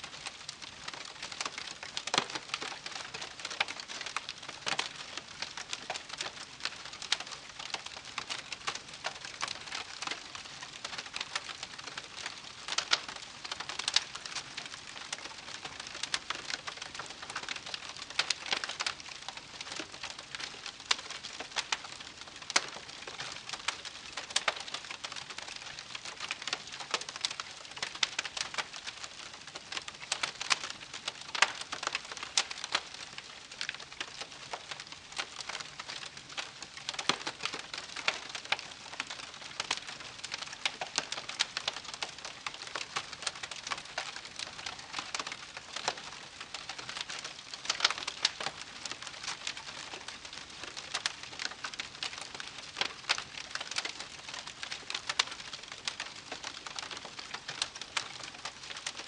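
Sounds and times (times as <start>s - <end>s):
soft steady hiss: 0.0s - 59.0s
campfire crackling and popping: 0.2s - 59.0s.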